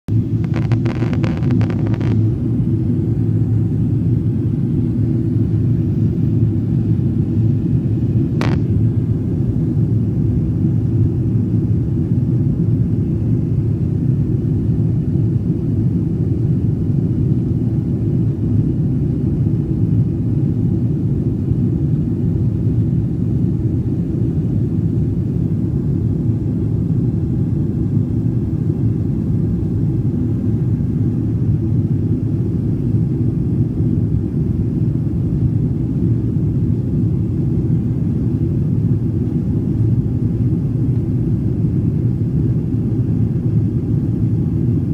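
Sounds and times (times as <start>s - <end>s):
airliner cabin engine drone: 0.1s - 44.9s.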